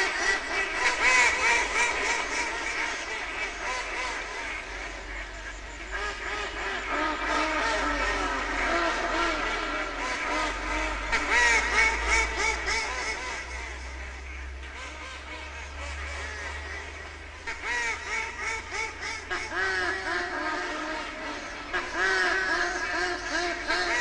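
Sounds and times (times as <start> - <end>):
ducks quacking: 0.0 - 24.0
low steady hum: 0.0 - 24.0.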